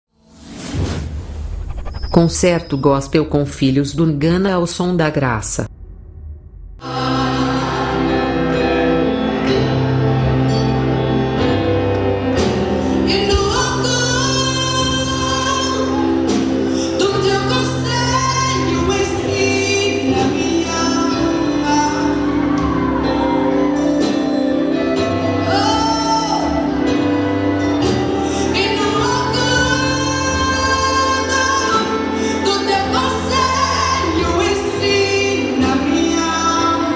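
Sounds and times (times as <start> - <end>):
band accompaniment: 6.8 - 36.9
gospel music with singing: 6.8 - 36.9.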